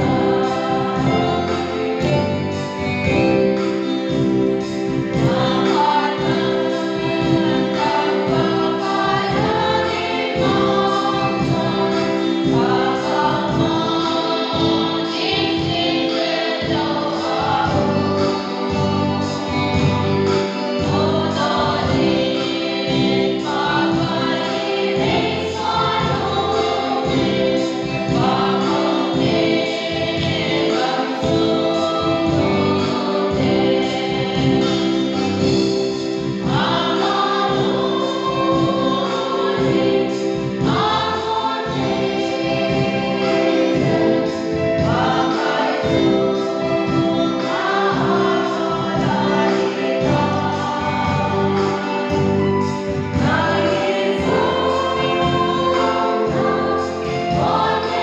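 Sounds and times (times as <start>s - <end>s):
women's choir singing a hymn: 0.0s - 58.0s.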